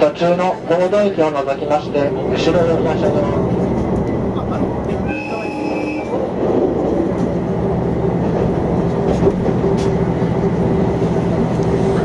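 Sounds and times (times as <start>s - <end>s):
railcar engine drone: 0.0s - 12.0s.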